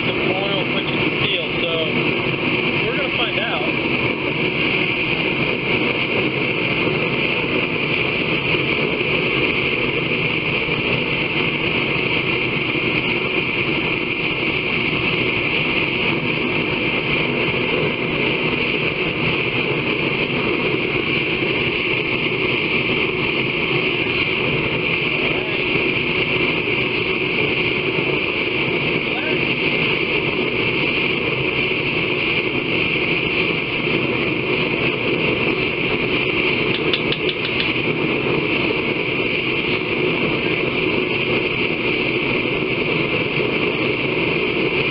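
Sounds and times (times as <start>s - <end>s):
forge rushing noise: 0.0s - 44.9s.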